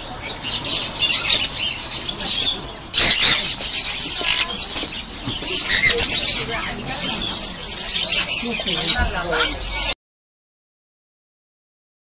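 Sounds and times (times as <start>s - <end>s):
birds chirping and calling: 0.0s - 10.0s.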